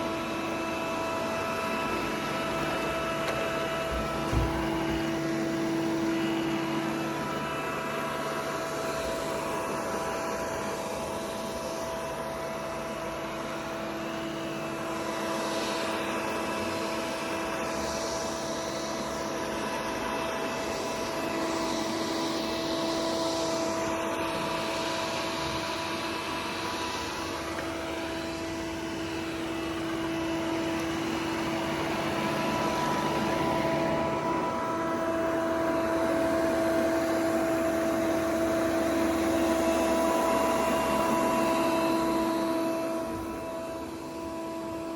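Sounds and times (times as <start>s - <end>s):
robot vacuum cleaner running: 0.0s - 44.9s.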